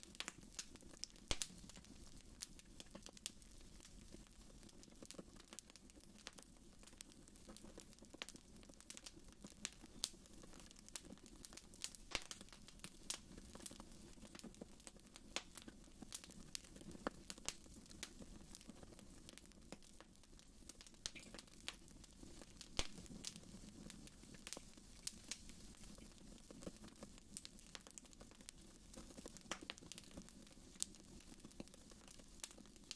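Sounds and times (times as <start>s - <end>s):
fireplace fire crackling: 0.0s - 32.9s.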